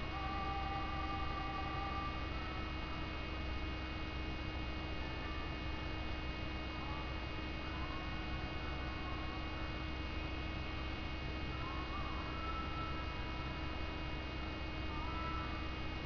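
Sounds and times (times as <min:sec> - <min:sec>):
constant hiss: 0:00.0 - 0:16.0
electrical hum: 0:00.0 - 0:16.0
faint wavering tones: 0:00.0 - 0:16.0.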